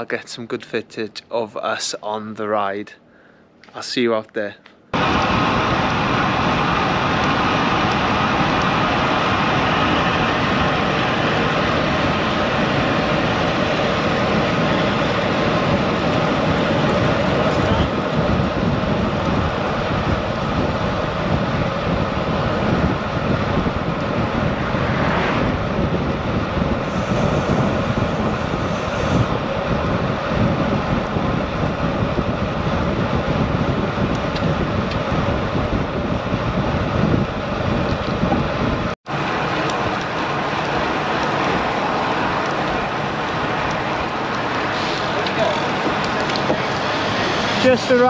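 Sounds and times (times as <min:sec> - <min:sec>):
road noise: 0:04.6 - 0:48.0
wind rushing over microphone: 0:04.9 - 0:48.0.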